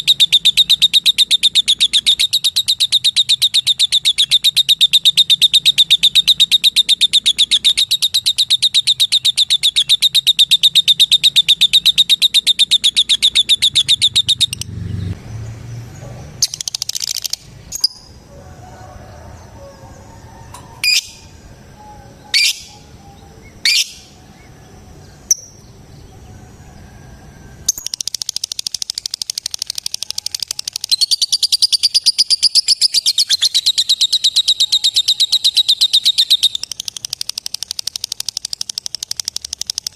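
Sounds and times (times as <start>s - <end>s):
lovebird chattering trill: 0.0s - 14.7s, 16.4s - 18.2s, 20.8s - 24.4s, 27.7s - 39.9s
sharp bird chirps: 0.0s - 18.2s, 20.7s - 39.9s.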